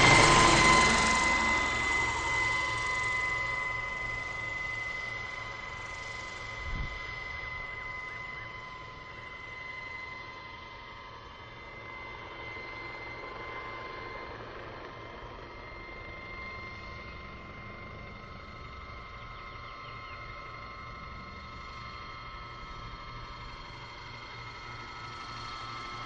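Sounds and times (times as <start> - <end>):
model helicopter whine: 0.0 - 26.0.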